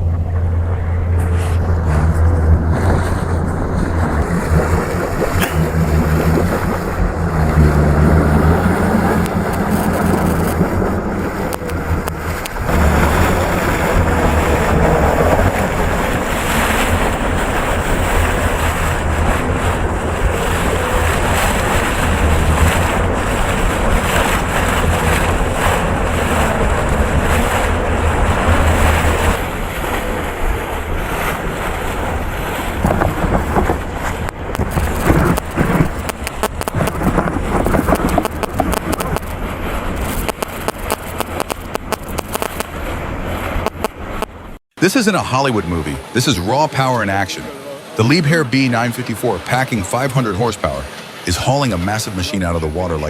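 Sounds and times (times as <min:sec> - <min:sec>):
diesel engine running under load: 0:00.0 - 0:44.6
wind buffeting microphone: 0:00.0 - 0:44.6.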